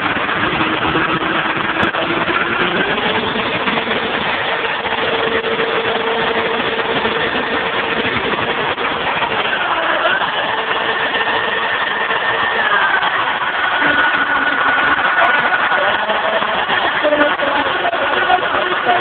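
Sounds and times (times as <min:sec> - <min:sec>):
electric drill whining: 0:00.0 - 0:19.0.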